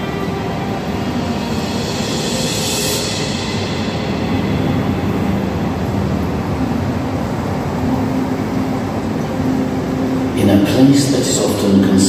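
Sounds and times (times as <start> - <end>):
low rumbling soundtrack: 0.0 - 12.0.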